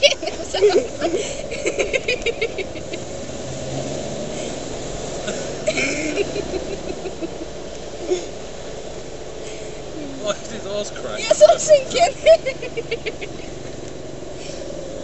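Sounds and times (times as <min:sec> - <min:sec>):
car engine running inside cabin: 0:00.0 - 0:15.0.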